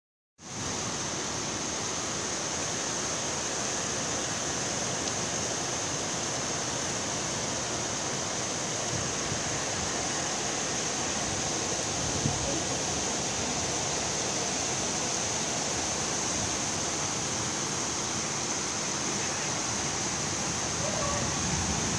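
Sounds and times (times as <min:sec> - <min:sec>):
rain falling steadily: 0:00.4 - 0:21.9.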